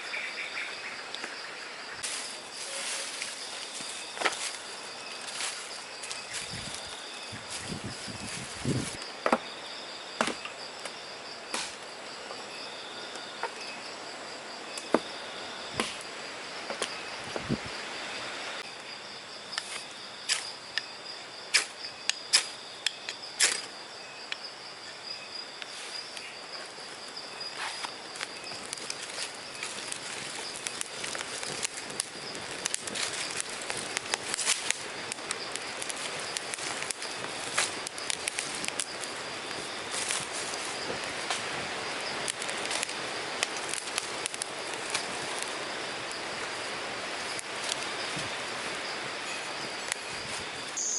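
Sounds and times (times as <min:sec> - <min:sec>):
crickets trilling: 0:00.0 - 0:50.9.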